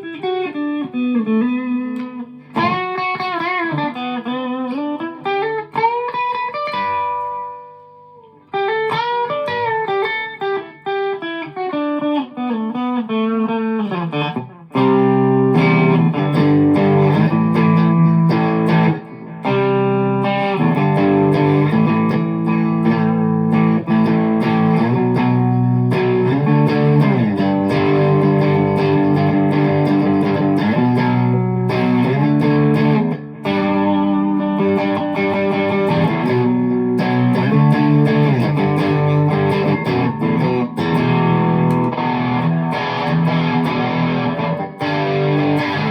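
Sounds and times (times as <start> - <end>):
electric guitar through an amp: 0.0 - 45.9.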